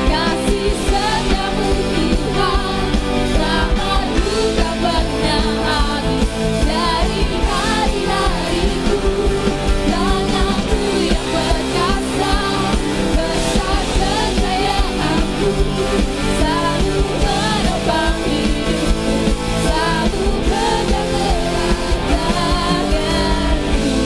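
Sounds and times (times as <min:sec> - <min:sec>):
steady drum beat: 0:00.0 - 0:24.0
worship band music: 0:00.0 - 0:24.0.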